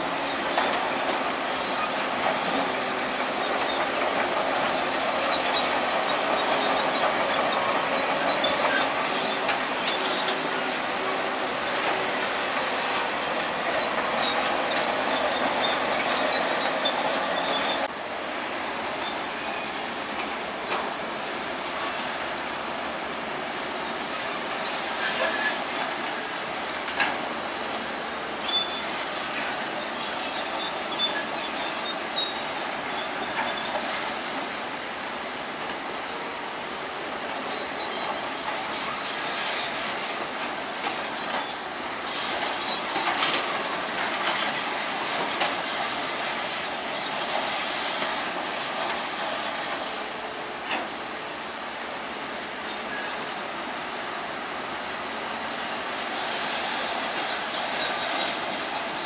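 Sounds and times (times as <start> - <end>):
bulldozer mechanical noise: 0.0 - 59.0
steel tracks squealing and clanking: 0.0 - 59.0.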